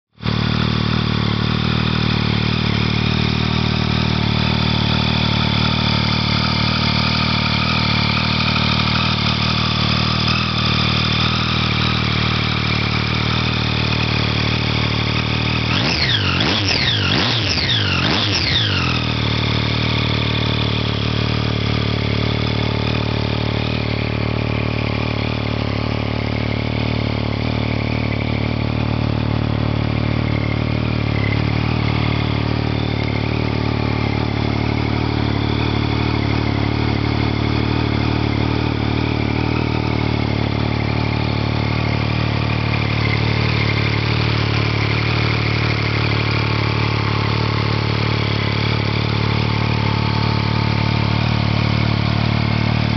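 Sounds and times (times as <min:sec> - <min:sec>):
motorcycle engine idling: 0:00.2 - 0:52.9.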